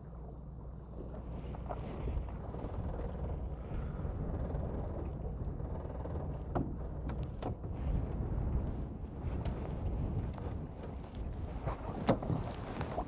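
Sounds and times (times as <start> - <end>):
motorboat engine rumble: 0.0 - 13.0.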